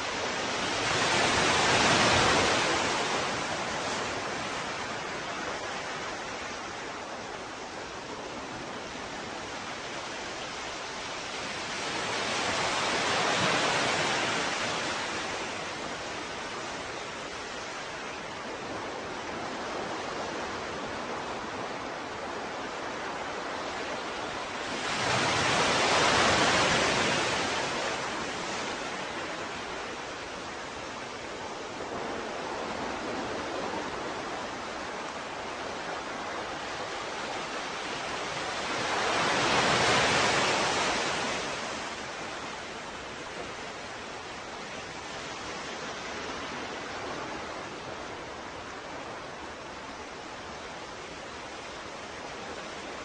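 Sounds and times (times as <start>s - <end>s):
ocean waves on shore: 0.0s - 53.0s.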